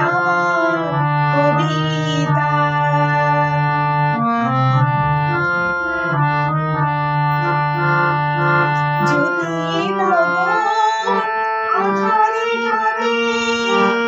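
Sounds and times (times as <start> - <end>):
organ-like keyboard chords: 0.0 - 14.0
wavering lead melody: 0.0 - 14.0.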